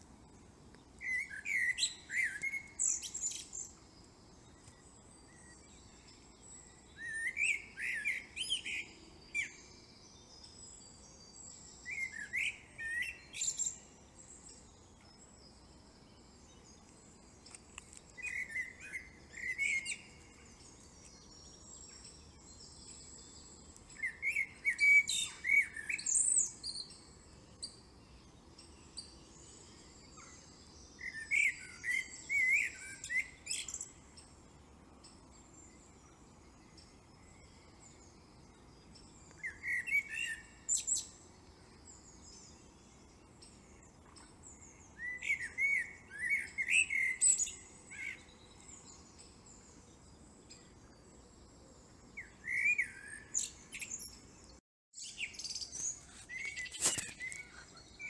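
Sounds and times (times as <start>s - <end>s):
faint steady hiss: 0.0s - 58.0s
bird chirping: 0.2s - 58.0s.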